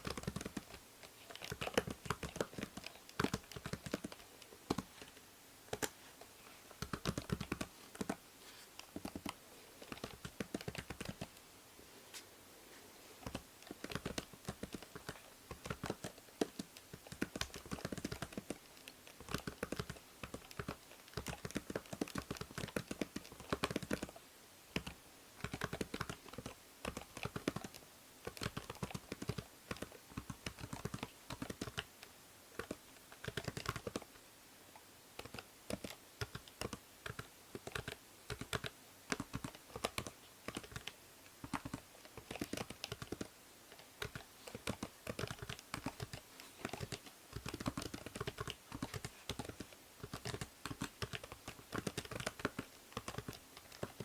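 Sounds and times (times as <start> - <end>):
typing on computer keyboard: 0.0 - 5.1, 6.8 - 8.2, 8.8 - 11.4, 13.2 - 24.2, 24.8 - 32.0, 32.6 - 34.1, 35.2 - 54.0
faint steady hiss: 0.0 - 54.0.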